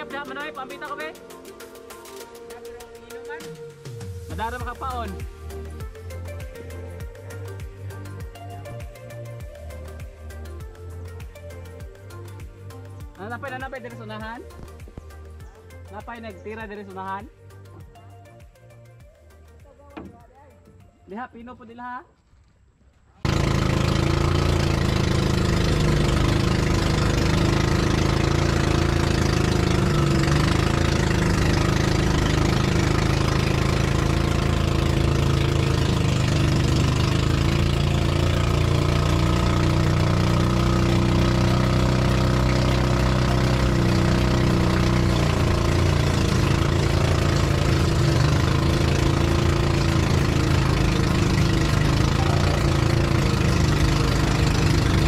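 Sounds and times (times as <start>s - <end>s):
boat inboard engine running: 0.0s - 17.2s, 19.7s - 20.6s, 23.2s - 55.0s.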